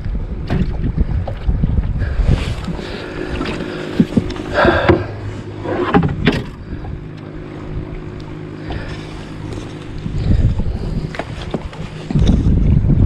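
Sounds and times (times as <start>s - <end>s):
electric trolling motor hum: 0.0s - 13.0s
wind rumbling on microphone: 0.0s - 13.0s.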